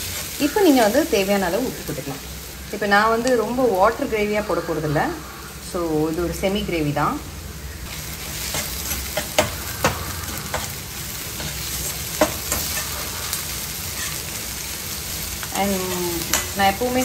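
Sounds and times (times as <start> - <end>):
shallots sizzling in a pan: 0.0 - 17.0.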